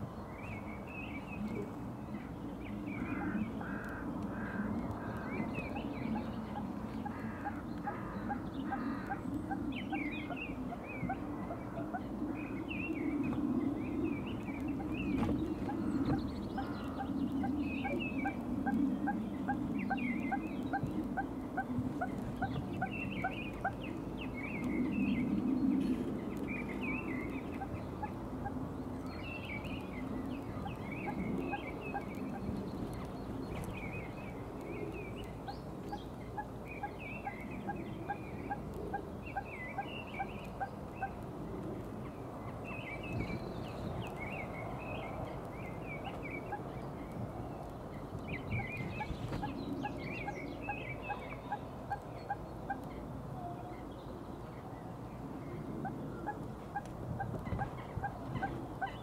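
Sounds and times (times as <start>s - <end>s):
birds chattering chirps: 0.0s - 56.6s
rapid repeated bird call notes: 0.5s - 53.2s.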